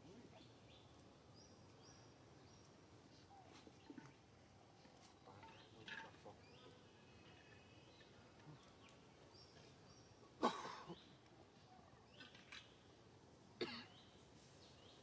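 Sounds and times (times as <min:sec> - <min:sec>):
faint bird chirps: 0:00.3 - 0:12.9.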